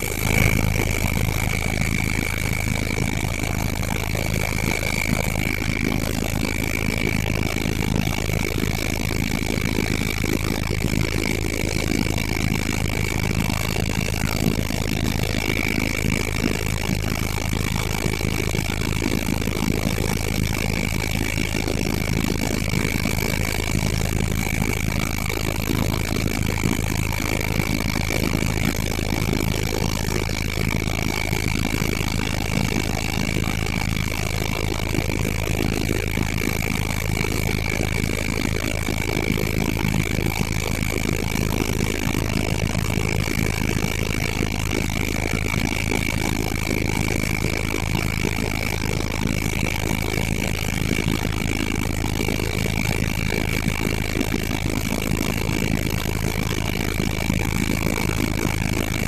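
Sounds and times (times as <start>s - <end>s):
helicopter engine and rotors: 0.0s - 59.0s
high turbine whine: 0.0s - 59.0s.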